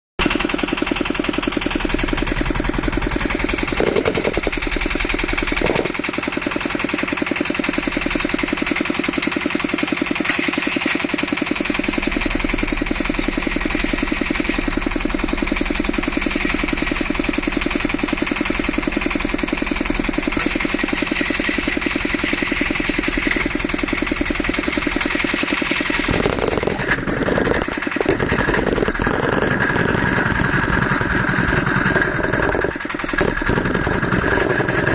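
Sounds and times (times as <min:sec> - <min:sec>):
engine idling with high whistle: 0:00.2 - 0:34.9.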